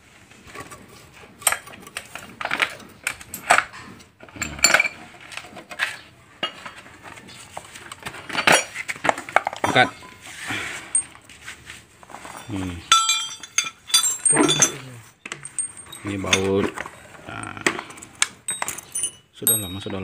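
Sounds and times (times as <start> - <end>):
metal tools clinking on engine: 0.5 - 6.9, 7.6 - 11.3, 12.0 - 20.0.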